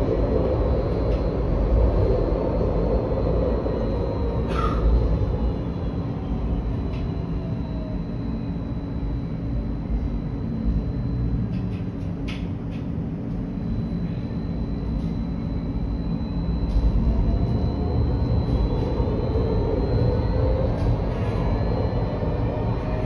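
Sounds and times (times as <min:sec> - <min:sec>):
faint rising whine: 0:00.0 - 0:23.0
tram rumbling: 0:00.0 - 0:23.0.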